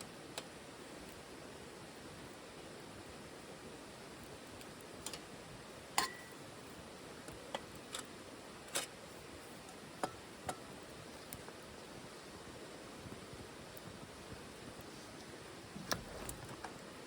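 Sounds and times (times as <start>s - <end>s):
faint steady hiss: 0.0s - 17.0s
wood fire crackling and popping: 0.0s - 17.0s.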